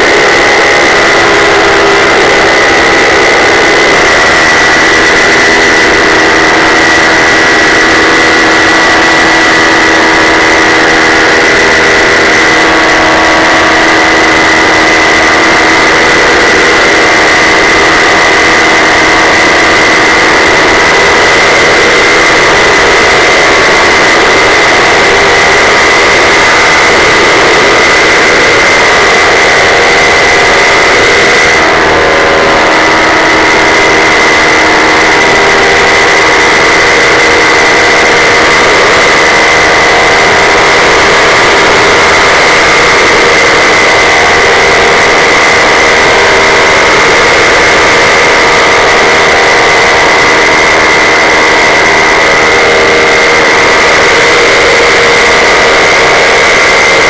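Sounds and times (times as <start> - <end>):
paramotor engine drone: 0.0 - 57.0
propeller high whine: 0.0 - 57.0.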